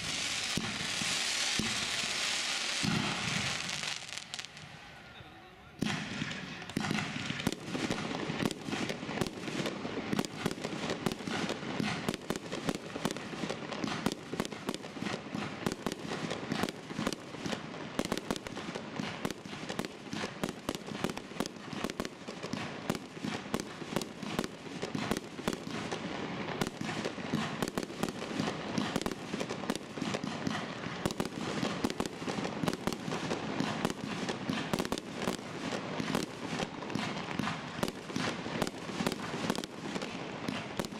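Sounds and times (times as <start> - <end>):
fireworks launching and bursting: 0.0 - 5.0, 5.8 - 40.9.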